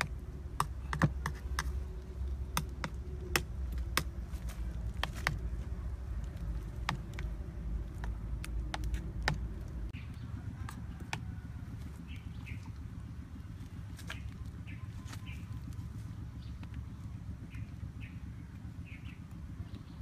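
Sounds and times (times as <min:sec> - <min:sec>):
birds chirping: 0:00.0 - 0:20.0
low rumble: 0:00.0 - 0:20.0.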